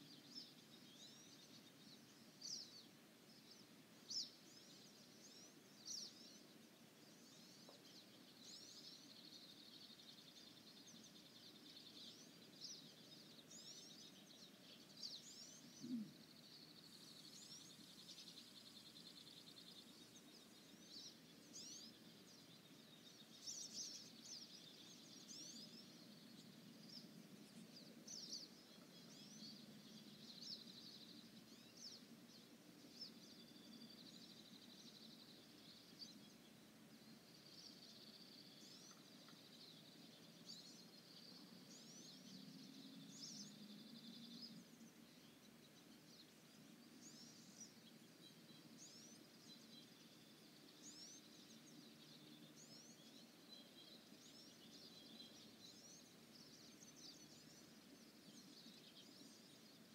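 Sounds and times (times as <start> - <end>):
distant birdsong: 0.0 - 59.9
songbirds chirping: 0.0 - 59.9.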